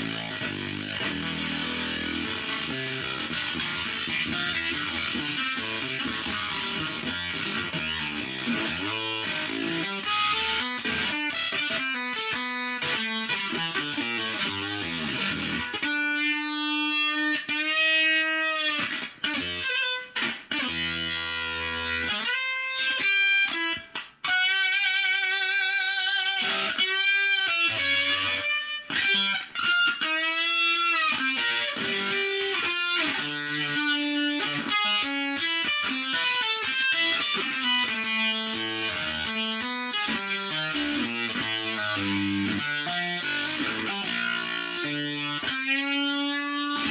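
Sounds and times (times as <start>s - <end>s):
electric guitar with fuzz: 0.0s - 46.9s.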